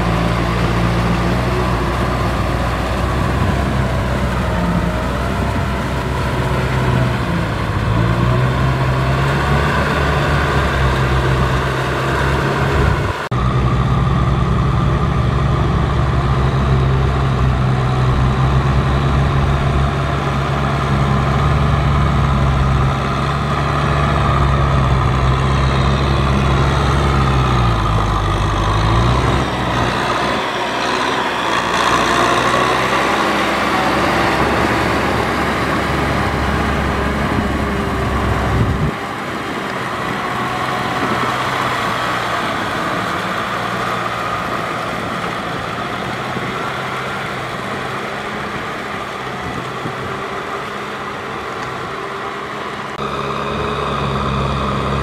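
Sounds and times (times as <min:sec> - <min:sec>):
tiller churning mud: 0:00.0 - 0:55.0
tractor diesel engine running: 0:00.0 - 0:55.0.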